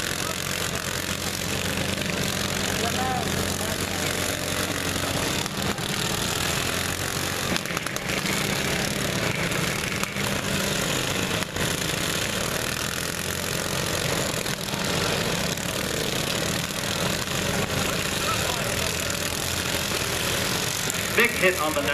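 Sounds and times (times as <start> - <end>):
lawn mower engines droning: 0.0 - 21.9.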